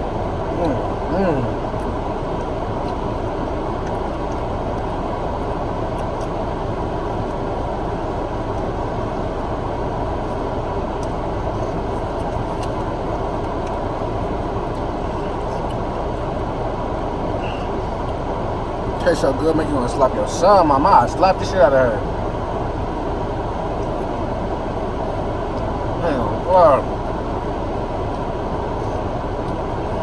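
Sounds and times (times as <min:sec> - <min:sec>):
low rumble and hum: 0:00.0 - 0:30.0.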